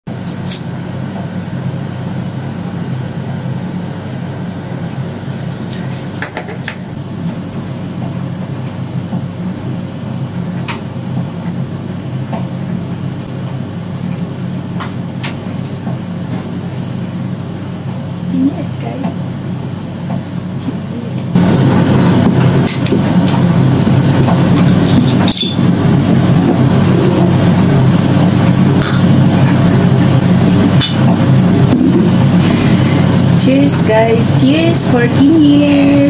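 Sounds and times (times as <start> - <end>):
steady low hum: 0.1 - 36.0.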